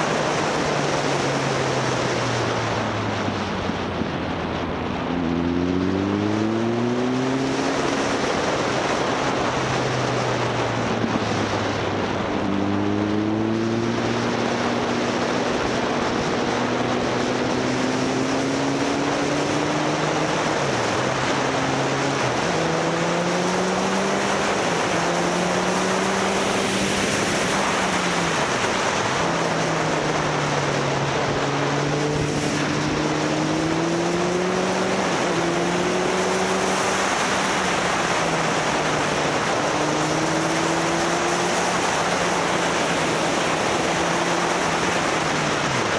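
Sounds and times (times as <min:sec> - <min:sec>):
wind noise: 0:00.0 - 0:45.9
motorcycle engine revving: 0:05.0 - 0:45.9.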